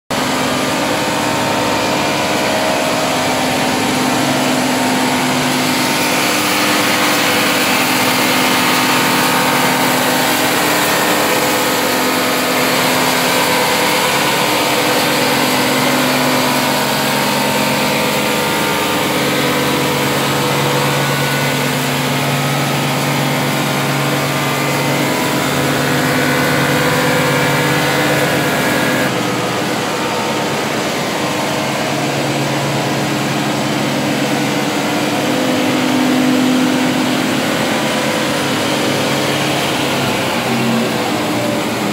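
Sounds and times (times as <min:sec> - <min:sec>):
sander humming: 0:00.2 - 0:41.9.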